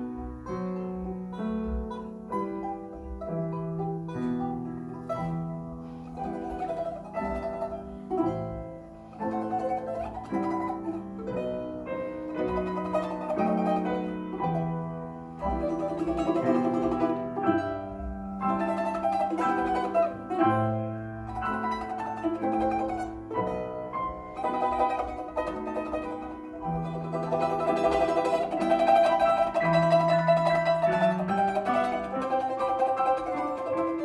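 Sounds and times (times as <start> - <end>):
plucked string folk tune: 0.0 - 34.0.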